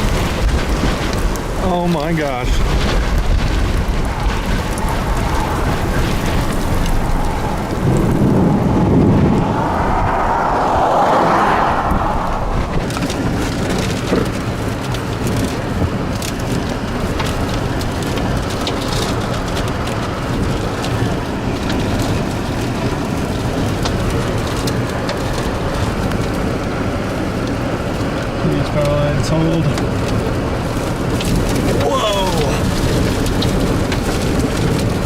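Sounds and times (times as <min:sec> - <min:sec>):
heavy rain pelting down: 0:00.0 - 0:35.0
sharp raindrop impacts: 0:00.0 - 0:35.0.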